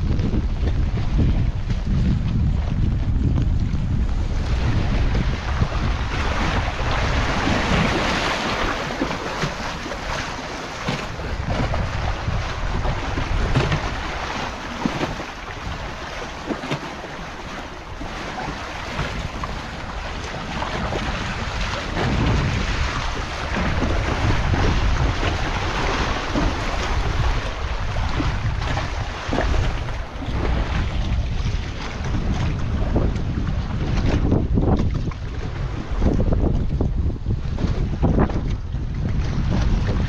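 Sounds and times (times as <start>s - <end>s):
low rumbling: 0.0s - 16.4s, 17.7s - 40.0s
strong gusty wind buffeting microphone: 0.0s - 40.0s.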